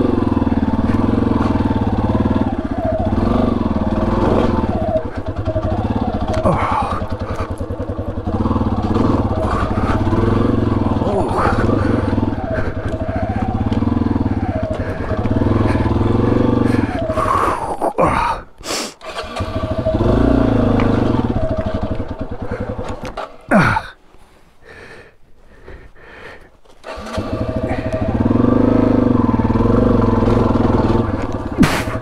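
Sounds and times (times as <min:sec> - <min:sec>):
motorcycle engine revving: 0:00.0 - 0:24.0, 0:26.7 - 0:32.0.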